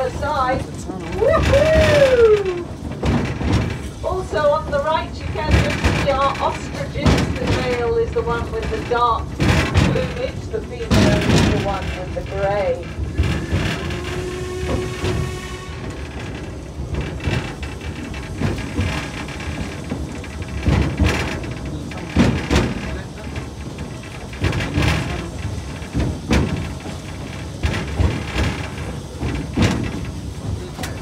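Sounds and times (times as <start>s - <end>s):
train carriage rumbling: 0.0s - 31.0s
wheels knocking over rail joints: 0.0s - 31.0s.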